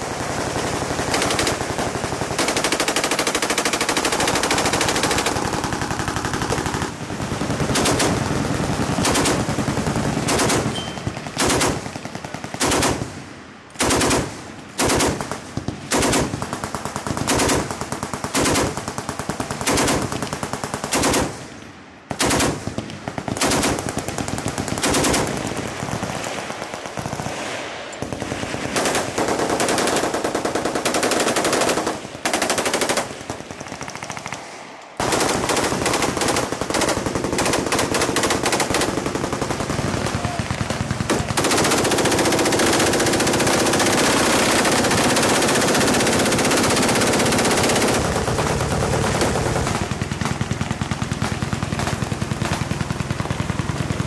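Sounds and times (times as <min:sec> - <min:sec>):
machine guns firing bursts: 0:00.0 - 0:21.5, 0:22.1 - 0:27.4, 0:28.0 - 0:34.4, 0:35.0 - 0:54.0.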